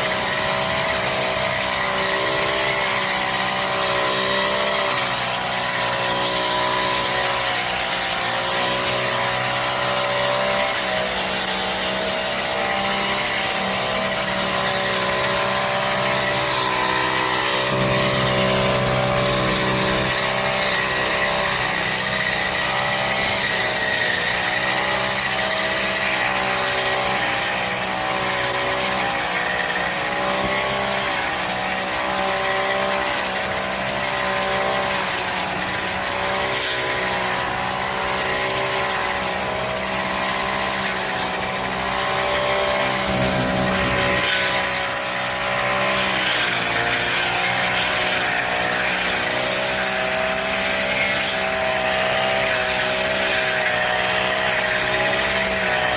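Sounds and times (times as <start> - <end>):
brush cutter engine running: 0.0 - 55.9.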